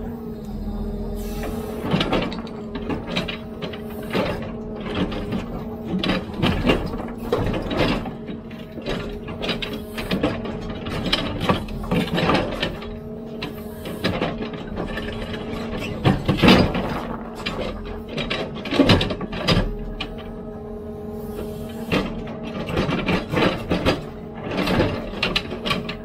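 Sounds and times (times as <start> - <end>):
diesel engine running: 0.0 - 26.0
digging arm clanks and knocks: 1.4 - 20.4, 21.8 - 26.0.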